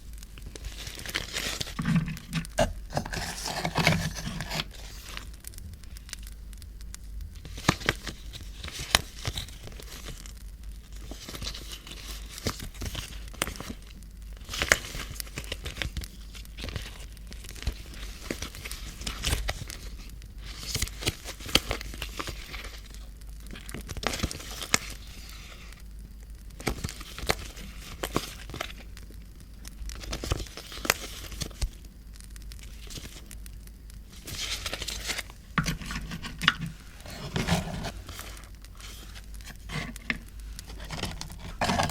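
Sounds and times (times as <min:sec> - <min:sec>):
steady low hum: 0:00.0 - 0:41.9
paper crinkling and tearing: 0:00.4 - 0:05.4, 0:07.4 - 0:10.3, 0:10.9 - 0:25.8, 0:26.6 - 0:28.9, 0:29.9 - 0:31.8, 0:32.5 - 0:33.4, 0:34.0 - 0:41.9.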